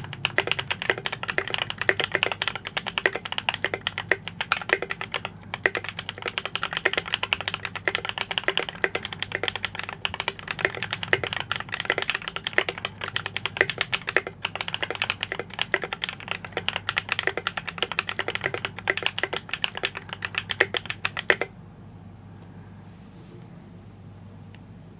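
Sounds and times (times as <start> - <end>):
fast typing on mechanical keyboard: 0.0 - 21.5.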